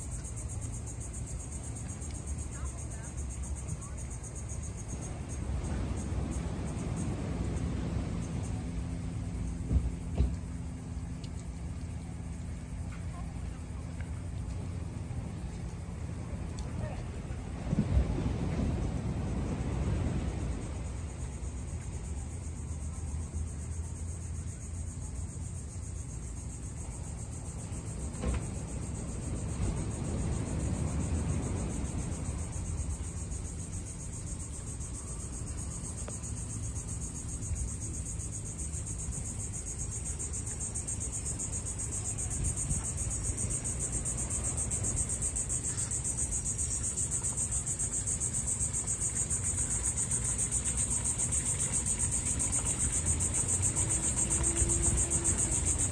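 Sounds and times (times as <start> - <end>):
insects trilling: 0.0 - 55.9
low outdoor rumble: 0.0 - 55.9.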